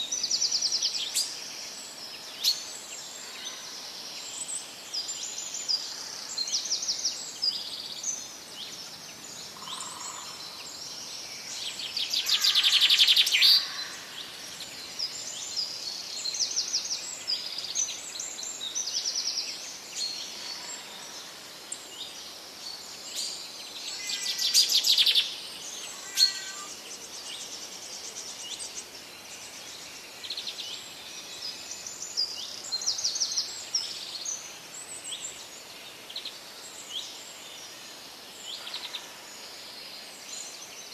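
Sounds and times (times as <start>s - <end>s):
background hiss: 0.0s - 40.9s
forest birds singing: 0.0s - 40.9s.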